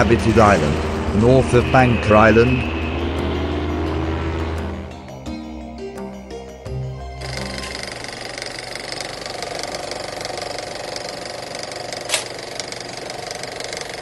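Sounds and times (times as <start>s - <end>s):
propeller aircraft engines droning: 0.0s - 14.0s.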